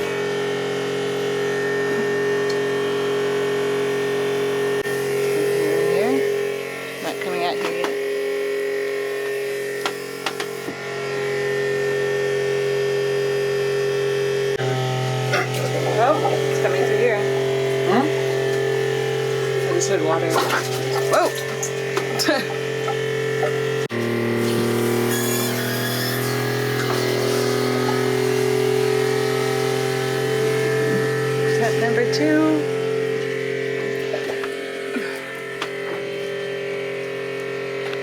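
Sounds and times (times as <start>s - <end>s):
electric pump humming: 0.0s - 38.0s.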